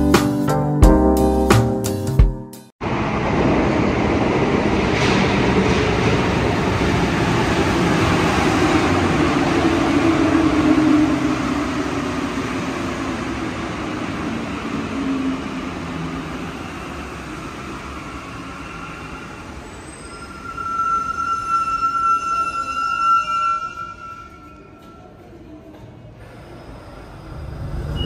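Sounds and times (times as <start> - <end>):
metro train cabin noise: 2.8 - 28.0.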